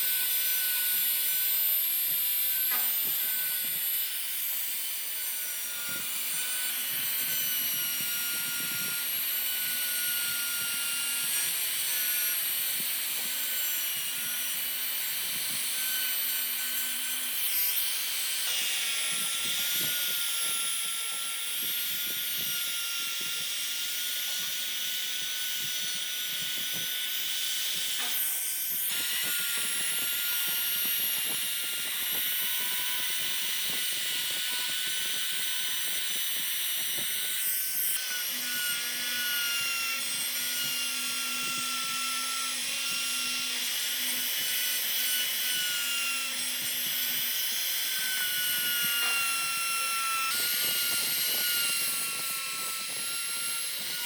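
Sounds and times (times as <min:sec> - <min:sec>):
power carving tool cutting wood: 0:00.0 - 0:54.0.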